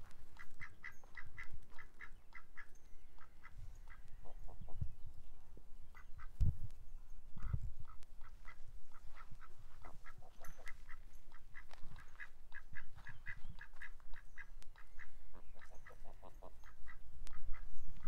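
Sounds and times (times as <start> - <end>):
ducks quacking: 0.4 - 4.7, 7.4 - 17.7.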